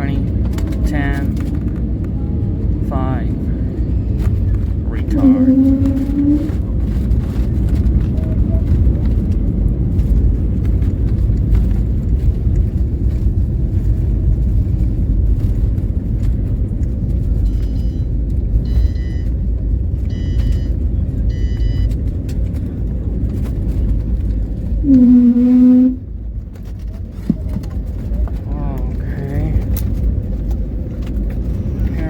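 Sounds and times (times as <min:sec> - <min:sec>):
airplane cabin rumble: 0:00.0 - 0:32.0
loud low hum: 0:00.0 - 0:32.0.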